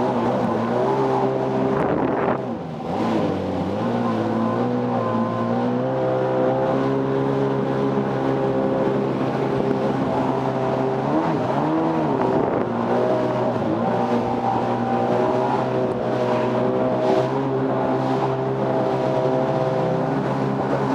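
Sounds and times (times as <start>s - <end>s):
jet ski engine revving: 0.0s - 20.9s.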